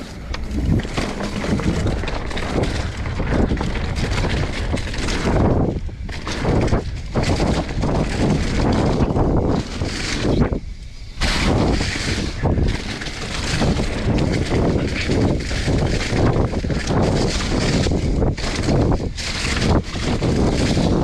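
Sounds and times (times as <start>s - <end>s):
bike tyres rustling through leaves: 0.0s - 21.0s
wind buffeting microphone: 0.0s - 21.0s.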